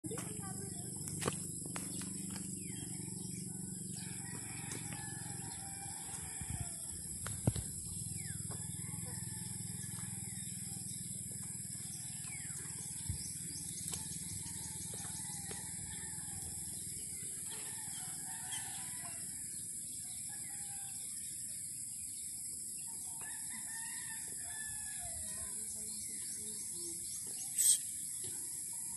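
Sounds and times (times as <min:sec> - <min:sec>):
bird calls and chirps: 0:00.3 - 0:06.5, 0:07.3 - 0:21.2, 0:25.2 - 0:28.9.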